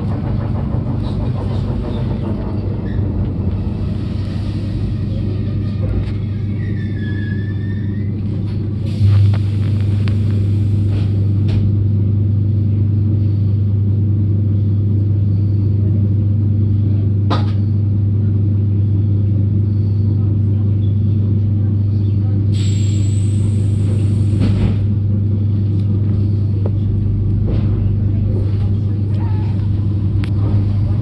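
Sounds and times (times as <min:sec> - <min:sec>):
moving vehicle rumble: 0:00.0 - 0:13.4, 0:18.2 - 0:31.0.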